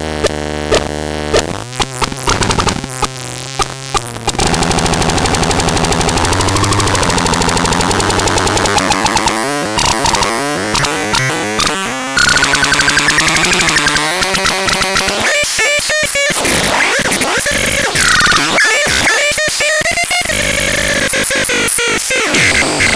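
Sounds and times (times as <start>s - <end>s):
buzzy electronic tones: 0.0s - 22.9s
stuttering electronic chirps: 1.8s - 21.5s.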